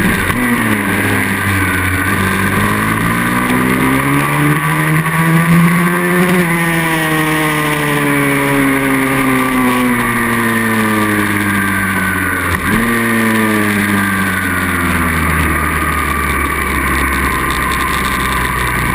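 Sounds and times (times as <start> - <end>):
motorbike engine revving: 0.0 - 18.9.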